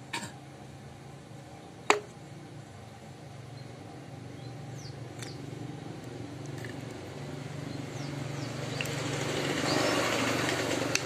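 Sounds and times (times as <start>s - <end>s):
vehicle engine running: 1.8s - 11.0s.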